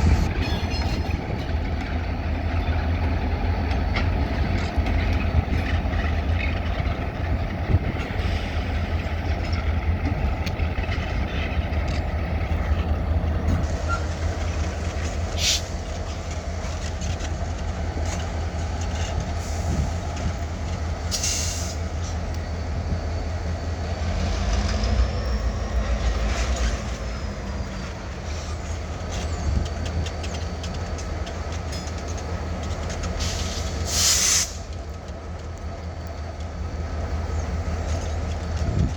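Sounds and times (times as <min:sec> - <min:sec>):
diesel locomotives rumbling: 0:00.0 - 0:38.9.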